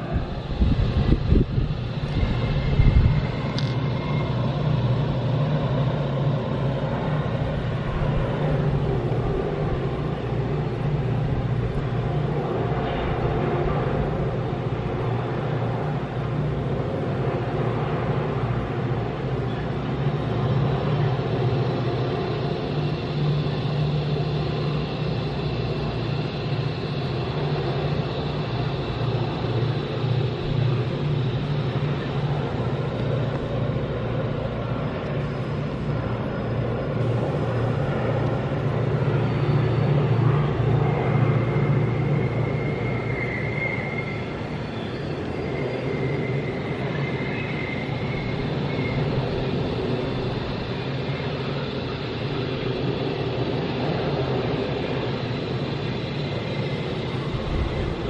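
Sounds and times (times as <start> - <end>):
locomotive engine drone: 0.0 - 58.0
rumble of train wagons: 0.0 - 58.0
thin high whine: 0.0 - 58.0.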